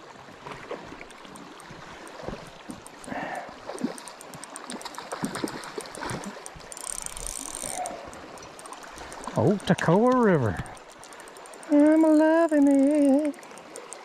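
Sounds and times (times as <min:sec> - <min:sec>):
fishing reel clicks: 0:01.0 - 0:14.0.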